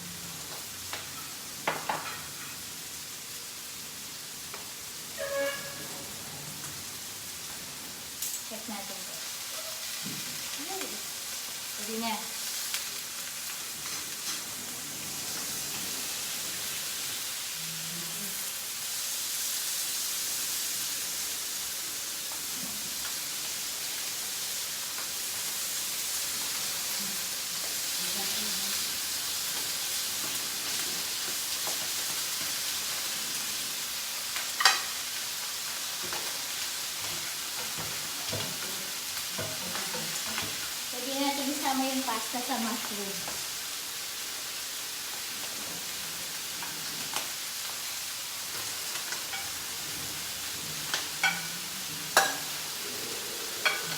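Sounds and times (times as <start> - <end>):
food sizzling in a frying pan: 0.0 - 53.9.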